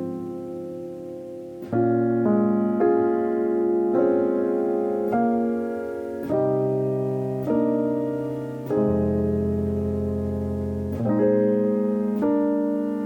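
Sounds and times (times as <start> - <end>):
solo piano slow chords: 0.0 - 13.0.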